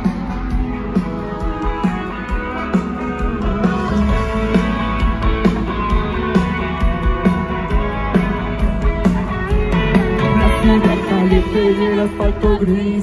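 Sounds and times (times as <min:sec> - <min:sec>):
steady drum beat: 0:00.0 - 0:12.9
guitar: 0:00.0 - 0:13.0
keyboard: 0:00.0 - 0:13.0.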